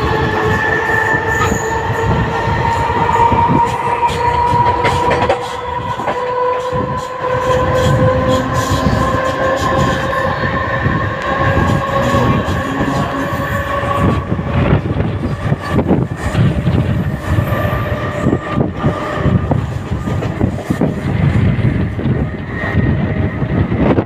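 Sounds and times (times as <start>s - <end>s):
electric train running: 0.0s - 24.0s
rail clacks: 0.0s - 24.0s
train motor whine: 0.0s - 24.0s.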